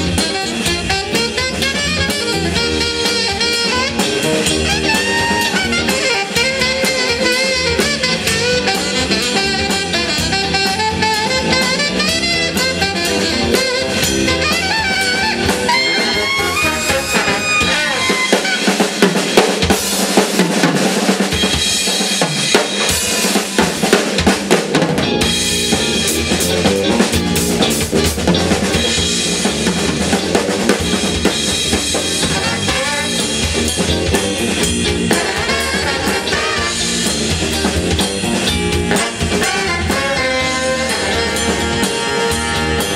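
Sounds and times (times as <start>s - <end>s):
drum break: 0.0s - 42.9s
funk band playing: 0.0s - 42.9s.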